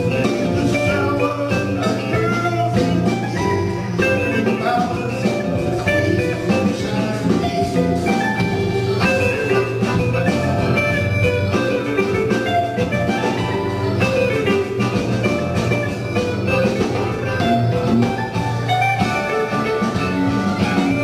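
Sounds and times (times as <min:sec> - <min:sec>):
drum kit beat: 0:00.0 - 0:21.0
electric guitars: 0:00.0 - 0:21.0
keyboard: 0:00.0 - 0:21.0.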